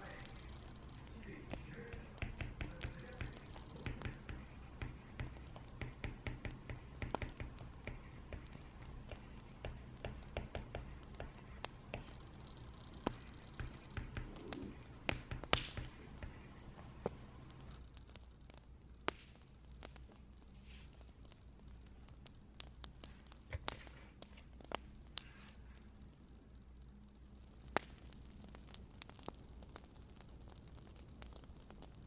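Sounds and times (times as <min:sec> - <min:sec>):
low steady rumble: 0:00.0 - 0:32.0
wood fire crackling: 0:00.0 - 0:32.0.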